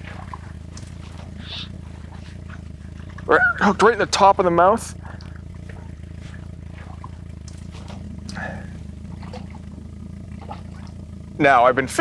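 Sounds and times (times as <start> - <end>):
faint water splashes: 0.0 - 12.0
outboard motor idling: 0.0 - 12.0.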